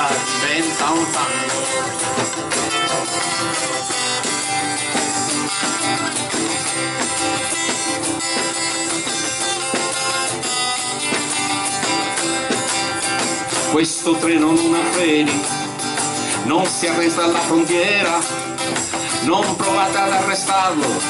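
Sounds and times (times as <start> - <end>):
tambourine: 0.0 - 13.8, 14.4 - 21.0
acoustic guitars strumming: 0.0 - 21.0.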